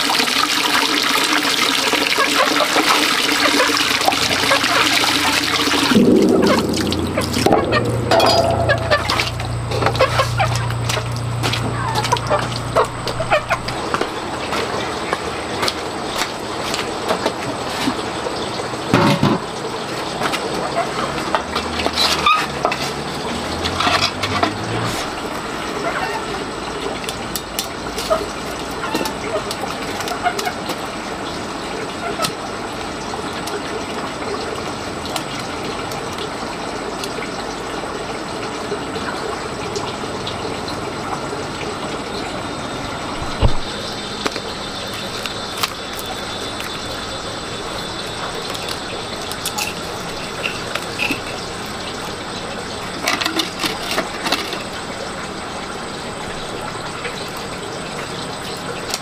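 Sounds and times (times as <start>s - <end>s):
water running: 0.0s - 59.0s.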